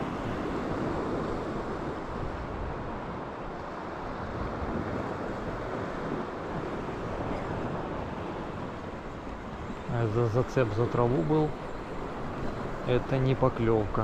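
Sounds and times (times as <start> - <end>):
sea surf washing on shore: 0.0 - 14.0
wind buffeting microphone: 0.0 - 14.0.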